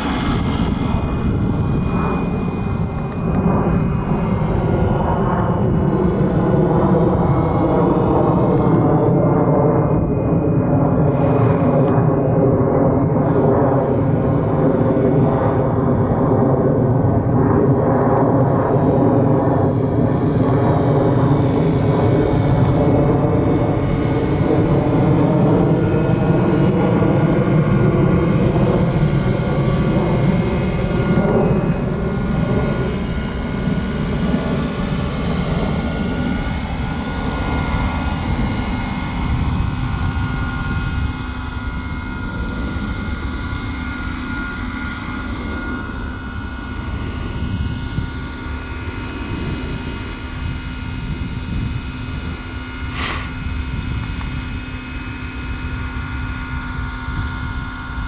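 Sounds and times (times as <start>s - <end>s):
high motor whine: 0.0s - 58.0s
model helicopter rotor beat: 0.0s - 58.0s.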